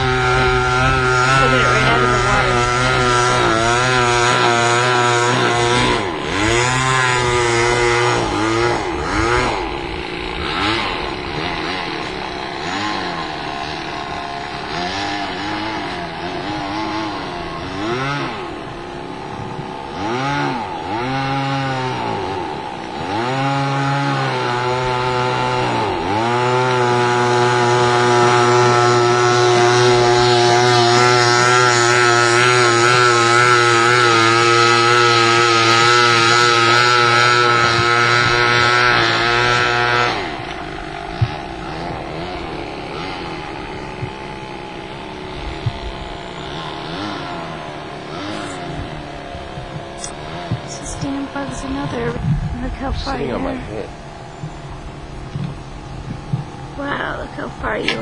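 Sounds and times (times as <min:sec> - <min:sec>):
two-stroke engine running: 0:00.0 - 0:58.0.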